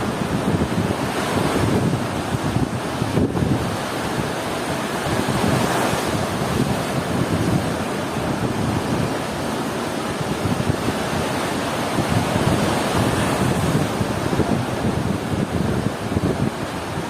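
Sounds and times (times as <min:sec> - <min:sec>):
ocean waves washing onto beach: 0:00.0 - 0:17.0
wind buffeting microphone: 0:00.0 - 0:17.0.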